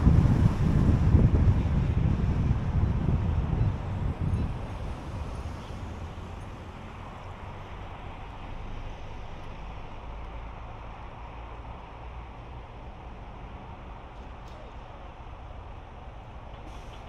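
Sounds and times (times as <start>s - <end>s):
car road noise at speed: 0.0s - 17.0s.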